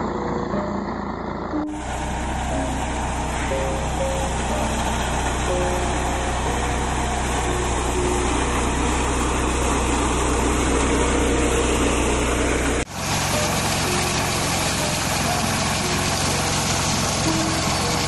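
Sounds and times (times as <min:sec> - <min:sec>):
diesel engine running: 0:00.0 - 0:18.0
threshing machinery running: 0:00.0 - 0:18.0.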